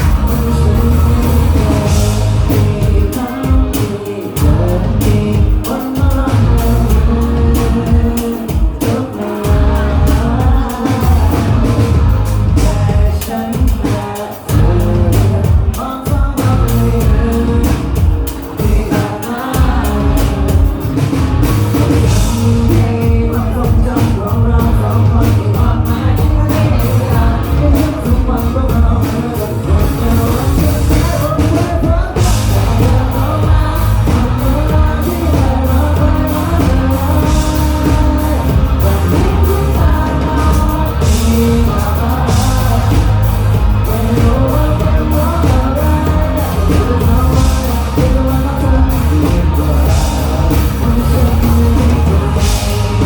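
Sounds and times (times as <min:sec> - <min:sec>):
live rock band playing: 0:00.0 - 0:53.0
person singing: 0:00.0 - 0:53.0.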